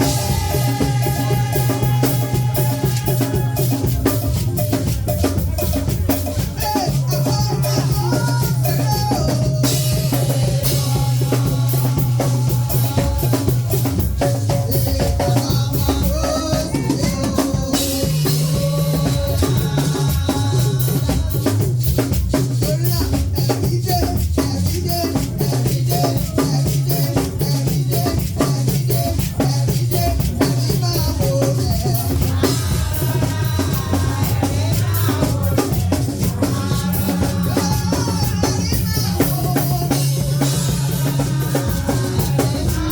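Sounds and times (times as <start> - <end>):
drum kit steady beat: 0.0 - 42.9
live band music: 0.0 - 42.9
moving bass line: 0.0 - 42.9.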